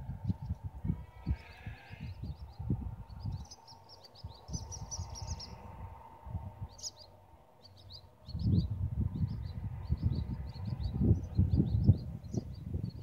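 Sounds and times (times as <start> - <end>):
small birds chirping: 0.2 - 5.8, 6.6 - 13.0.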